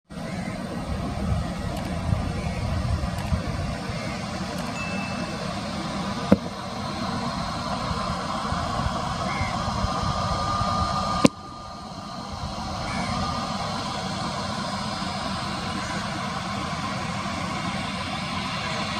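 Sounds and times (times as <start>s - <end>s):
jet engines running: 0.0s - 18.9s
faint whine: 0.1s - 18.9s.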